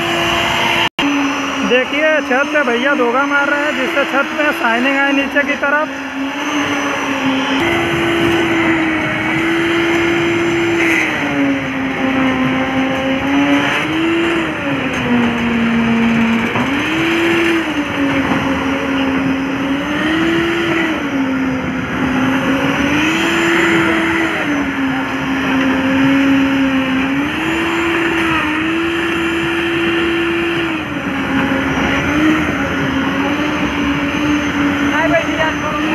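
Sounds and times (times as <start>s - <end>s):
concrete mixer engine running: 0.0s - 35.9s.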